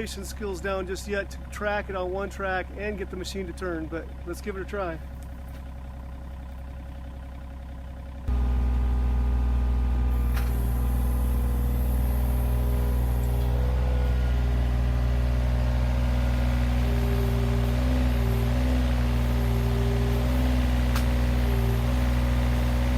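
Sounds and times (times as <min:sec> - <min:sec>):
excavator diesel engine: 0:00.0 - 0:22.9.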